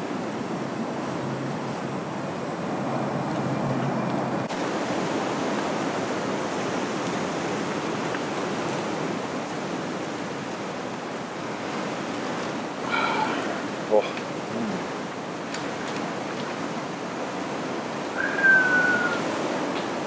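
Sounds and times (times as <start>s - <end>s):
wind rushing in trees: 0.0s - 20.0s.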